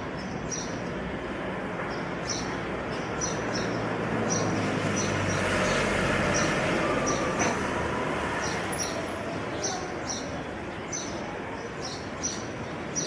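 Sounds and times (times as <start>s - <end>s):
outdoor background noise: 0.0s - 13.0s
small birds chirping: 0.0s - 13.0s.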